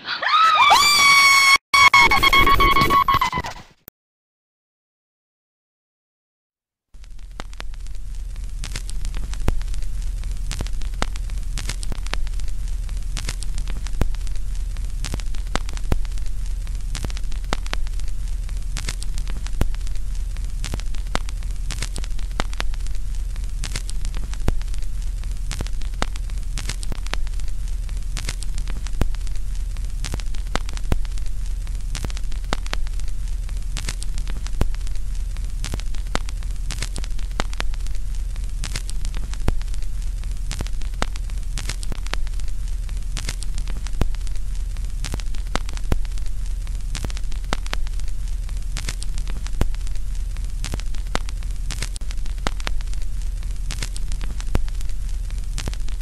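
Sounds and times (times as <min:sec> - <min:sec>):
crackling static: 0:00.7 - 0:03.8, 0:07.0 - 0:56.0
deep hum: 0:07.0 - 0:56.0.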